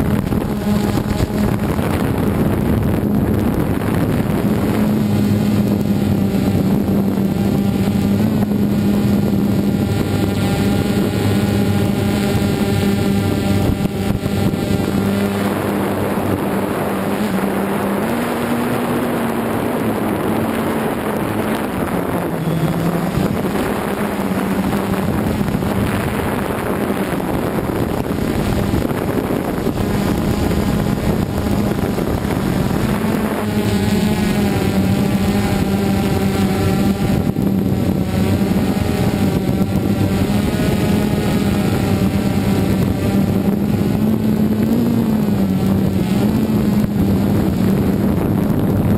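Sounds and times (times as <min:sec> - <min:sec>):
drone propellers buzzing: 0:00.0 - 0:48.9
higher whine: 0:00.0 - 0:48.9.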